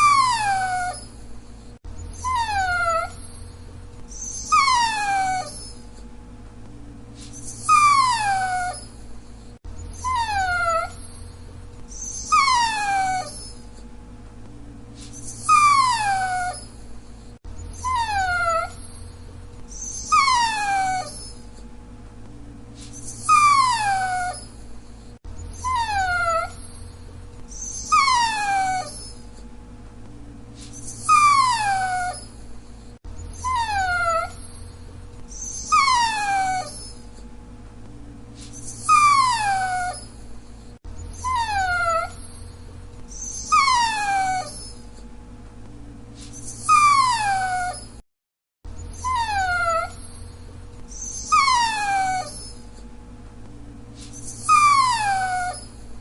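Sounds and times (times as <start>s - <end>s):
dog whining: 0.0s - 6.1s, 7.2s - 13.9s, 15.0s - 21.7s, 22.8s - 29.5s, 30.6s - 37.3s, 38.4s - 45.1s, 46.2s - 48.0s, 48.7s - 52.9s, 54.0s - 56.0s.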